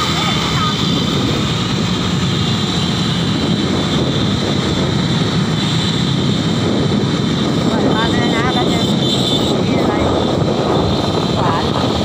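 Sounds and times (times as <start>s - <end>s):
car road noise: 0.0s - 12.0s
wind on microphone: 0.0s - 12.0s.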